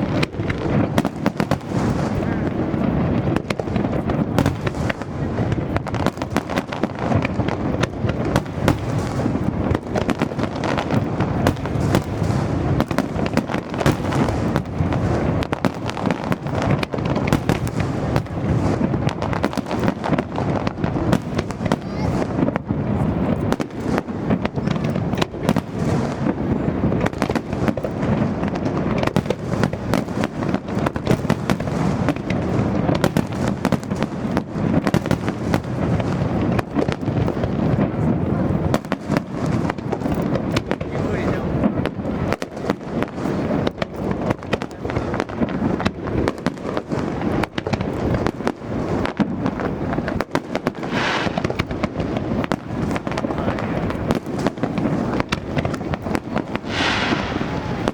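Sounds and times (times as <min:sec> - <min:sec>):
fireworks bangs and crackles: 0:00.0 - 0:57.9.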